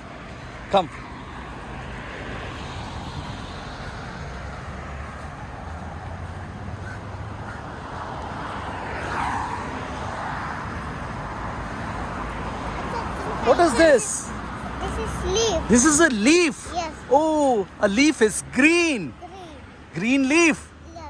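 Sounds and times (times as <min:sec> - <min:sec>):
road traffic noise: 0:00.0 - 0:21.0
vehicle passing by: 0:00.0 - 0:21.0.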